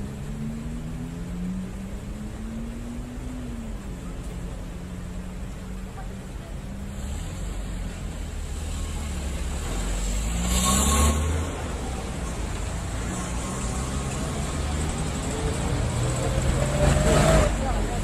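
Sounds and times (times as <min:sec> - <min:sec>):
motor vehicle engine rumble: 0:00.0 - 0:18.0.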